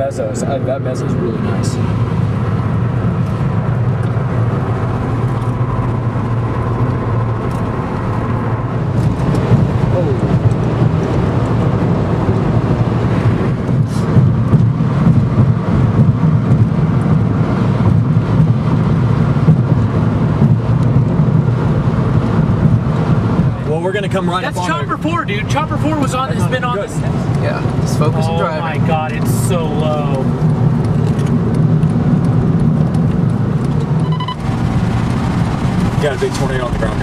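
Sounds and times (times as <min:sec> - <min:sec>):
car cabin drone: 0:00.0 - 0:37.0.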